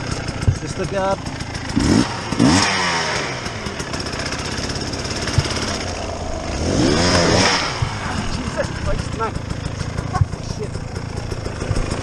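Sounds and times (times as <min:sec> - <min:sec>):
dirt bike engine idling and revving: 0:00.0 - 0:12.0.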